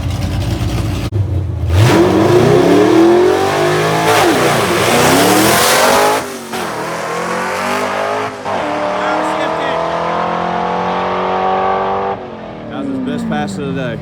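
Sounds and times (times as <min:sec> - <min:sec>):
drag car engine revving: 0:00.0 - 0:14.0.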